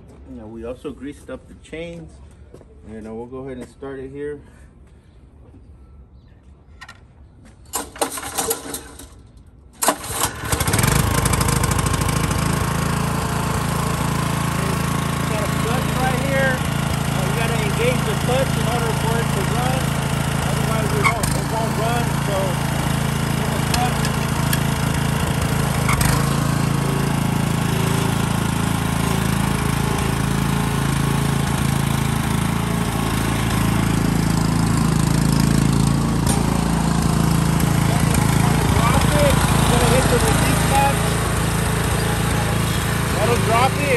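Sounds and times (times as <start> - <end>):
gas engine starting and running: 7.7 - 43.9.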